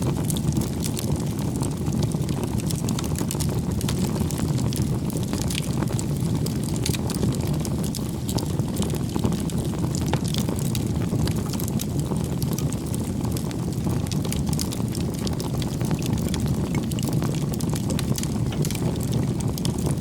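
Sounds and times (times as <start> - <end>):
fire crackling and popping: 0.0 - 20.0
fire flame rushing: 0.0 - 20.0.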